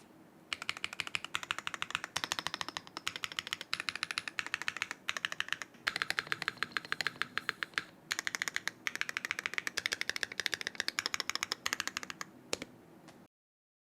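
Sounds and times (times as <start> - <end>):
fast typing on mechanical keyboard: 0.5 - 12.7.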